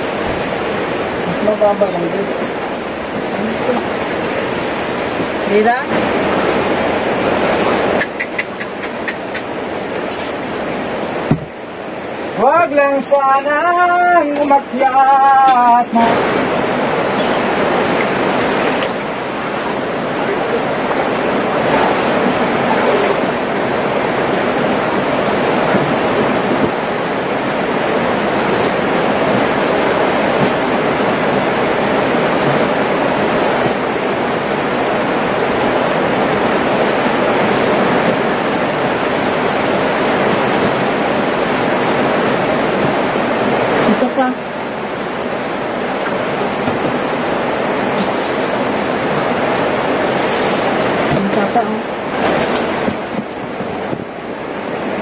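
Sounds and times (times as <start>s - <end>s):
heavy rain and rushing water: 0.0s - 55.0s.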